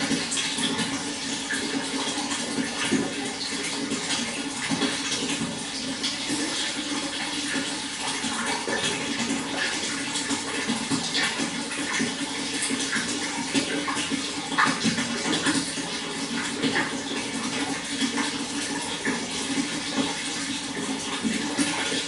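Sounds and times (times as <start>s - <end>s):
running water splashing: 0.0s - 22.0s.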